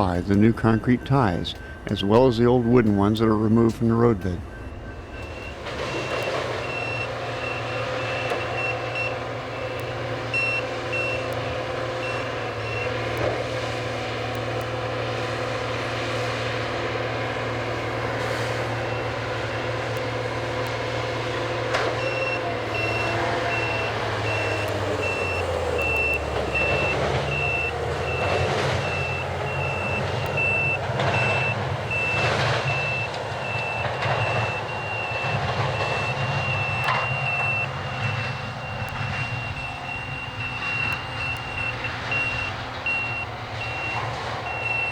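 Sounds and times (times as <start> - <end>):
diesel engine running: 0.0 - 44.9
warning alarm beeping: 0.0 - 44.9.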